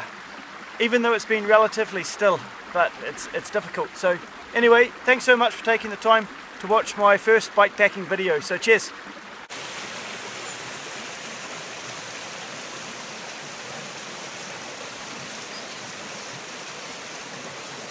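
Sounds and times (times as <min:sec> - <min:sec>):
running water rushing: 0:00.0 - 0:17.9.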